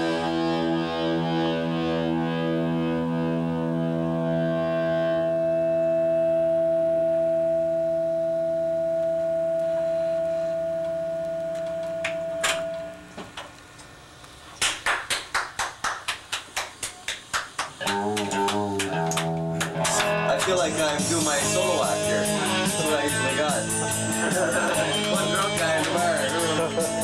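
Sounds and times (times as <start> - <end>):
distorted electric guitar: 0.0 - 14.5, 17.7 - 27.0.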